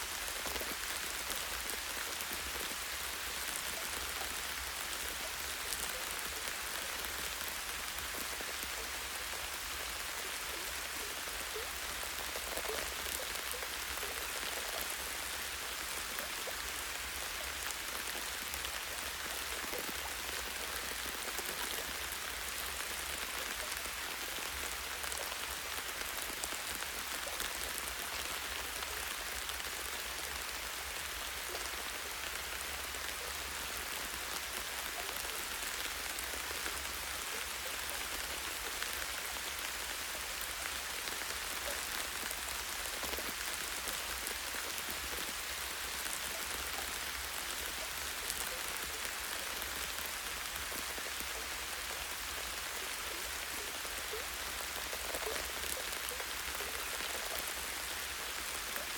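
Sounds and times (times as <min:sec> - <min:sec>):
light rain on tree branch: 0:00.0 - 0:58.9.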